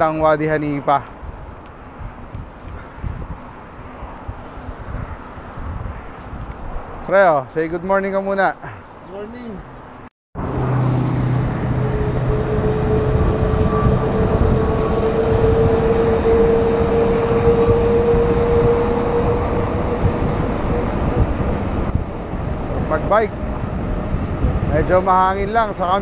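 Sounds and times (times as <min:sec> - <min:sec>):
wind noise on microphone: 0:00.0 - 0:07.3, 0:10.4 - 0:26.0.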